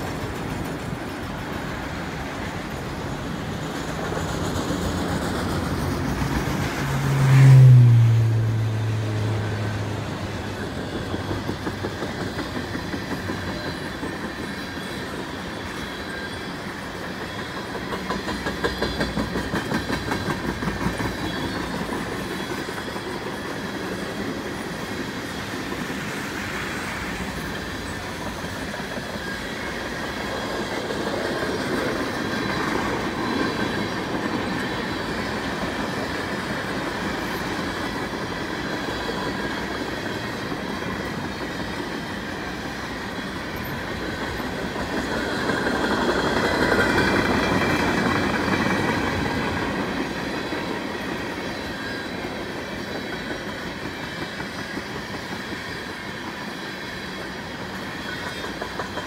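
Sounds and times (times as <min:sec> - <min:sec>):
wheels clacking over rail joints: 0:00.0 - 0:07.3, 0:08.5 - 0:59.0
train wheels rumbling on rail: 0:00.0 - 0:59.0.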